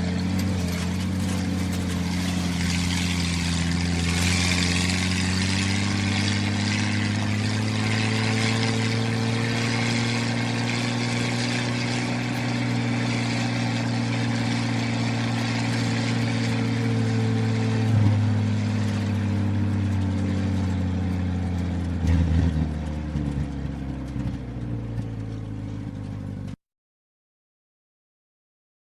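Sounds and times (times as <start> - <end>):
car engine running while driving: 0.0 - 26.6.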